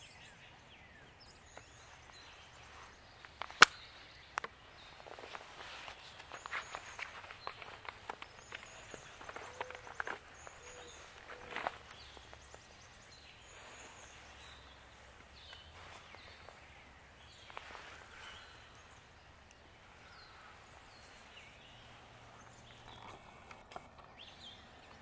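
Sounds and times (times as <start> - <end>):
woodland birds chirping: 0.0 - 25.0
short crunch: 1.5 - 25.0.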